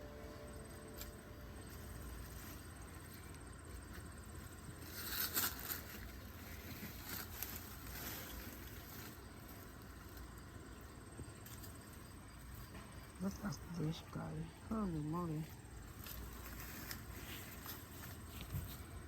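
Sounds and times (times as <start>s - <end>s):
faint rustling and scraping: 0.1s - 19.0s.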